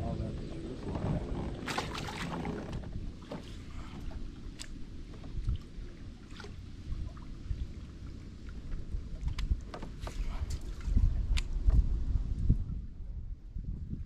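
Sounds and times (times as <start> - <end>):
water around kayak: 0.0 - 14.0
wind rumbling on microphone: 0.0 - 14.0.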